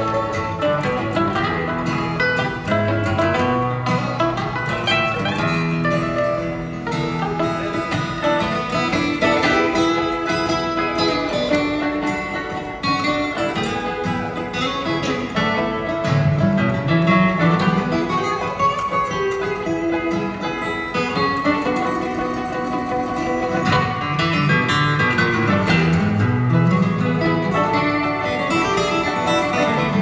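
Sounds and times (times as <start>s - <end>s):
acoustic guitar: 0.0s - 30.0s
mandolin: 0.0s - 30.0s.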